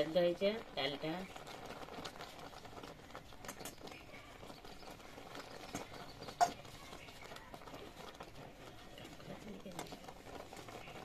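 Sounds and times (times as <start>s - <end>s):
ladle mashing lentils in a wok: 0.0s - 11.0s.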